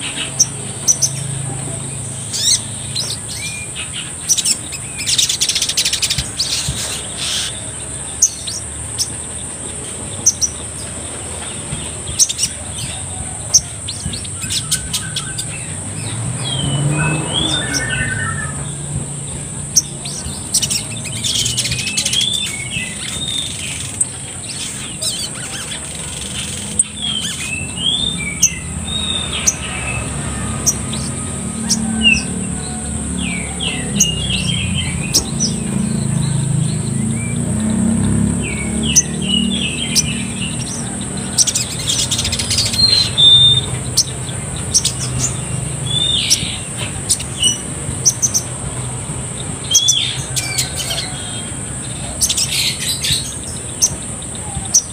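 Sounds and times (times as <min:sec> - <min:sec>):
bird chirping and twittering: 0:00.0 - 0:54.9.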